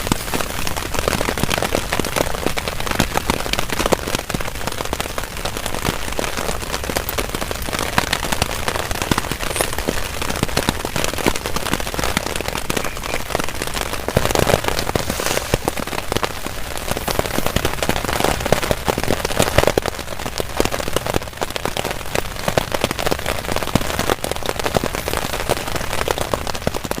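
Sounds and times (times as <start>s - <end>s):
heavy rain on a tarp: 0.0s - 27.0s.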